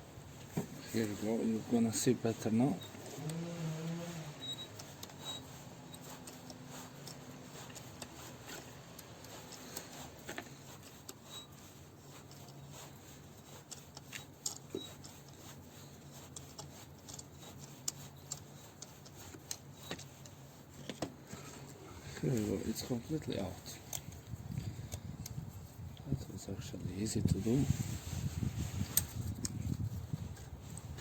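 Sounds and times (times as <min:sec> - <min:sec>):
small clicks and scrapes of puller: 0:00.4 - 0:26.1, 0:27.2 - 0:31.0.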